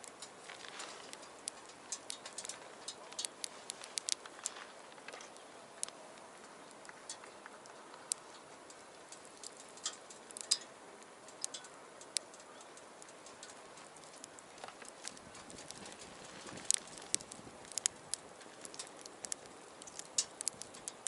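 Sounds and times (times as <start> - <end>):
low fire hiss: 0.0 - 21.0
wood fire crackling: 0.0 - 21.0.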